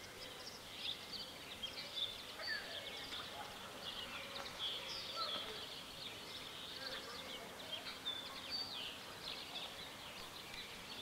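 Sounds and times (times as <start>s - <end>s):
songbirds chirping and singing: 0.0s - 11.0s.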